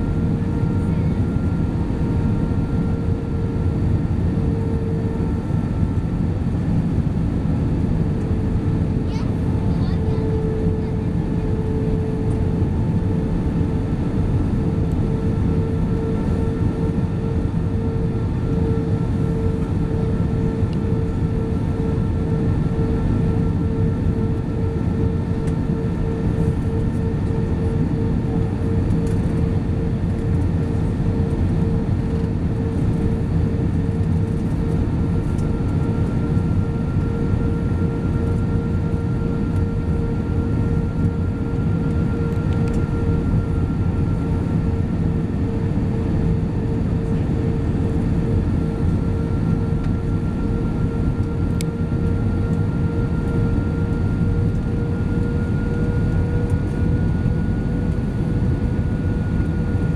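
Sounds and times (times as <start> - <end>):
constant humming tone: 0.0 - 59.9
jet engines droning: 0.0 - 59.9.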